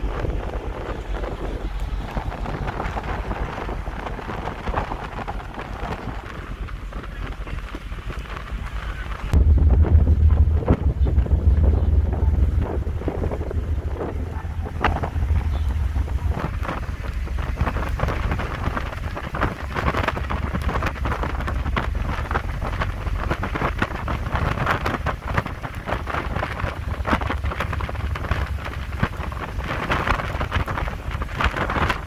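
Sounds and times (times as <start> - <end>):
churning boat wake rushing: 0.0 - 32.0
wind buffeting microphone: 0.0 - 32.0.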